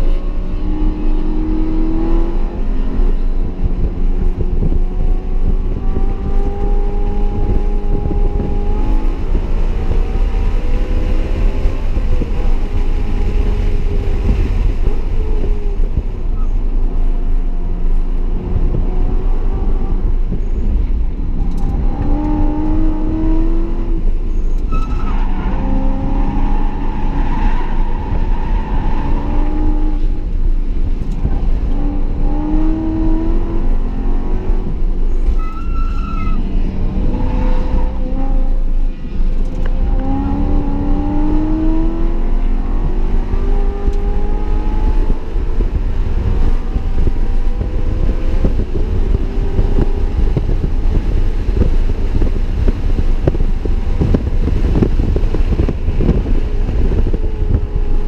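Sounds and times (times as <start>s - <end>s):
car engine revving in cabin: 0.0s - 58.0s
road and wind rumble: 0.0s - 58.0s.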